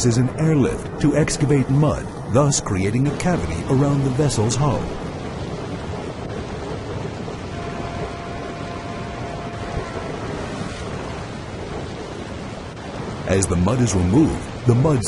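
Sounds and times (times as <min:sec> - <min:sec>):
sea and wind rushing: 0:00.0 - 0:15.0.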